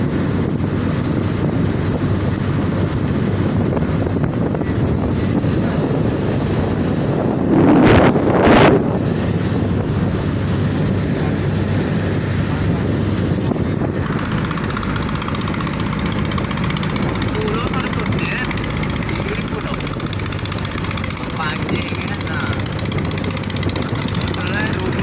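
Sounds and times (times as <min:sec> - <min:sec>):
boat engine running: 0:00.0 - 0:25.0
wind buffeting microphone: 0:00.0 - 0:25.0.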